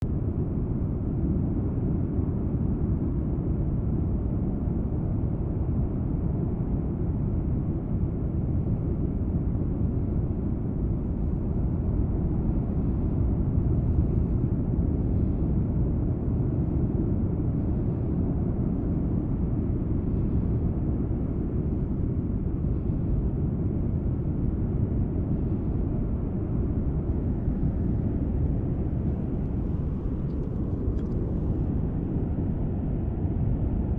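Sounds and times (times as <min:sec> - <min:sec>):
lava fountain jet-like roar: 0:00.1 - 0:33.9.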